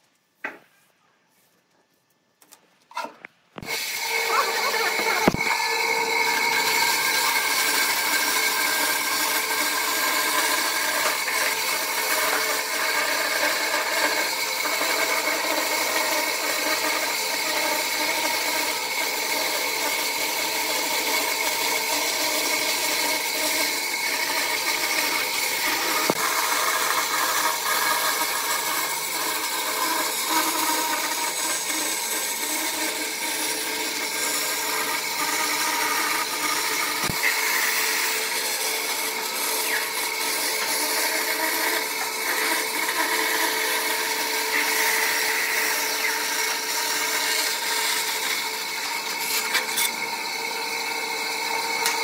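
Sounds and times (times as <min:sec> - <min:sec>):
bandsaw cutting wood: 0:02.9 - 0:52.0.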